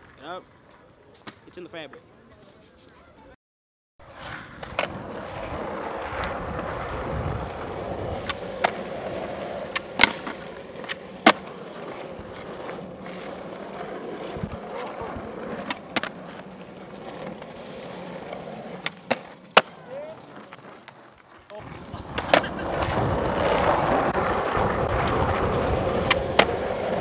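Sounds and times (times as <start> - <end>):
skateboard wheels rolling on asphalt: 4.0 - 27.0
skateboard clacks: 4.5 - 27.0.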